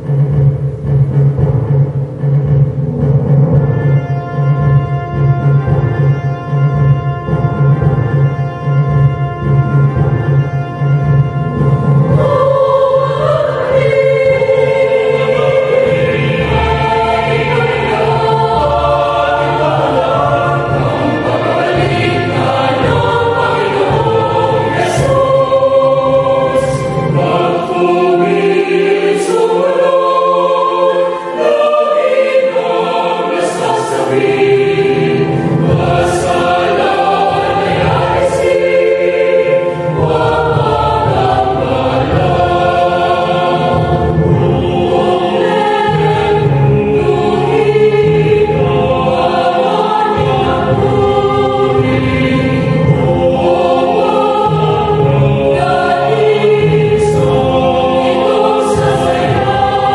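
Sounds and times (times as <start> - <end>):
mixed choir singing a hymn: 3.6 - 59.9.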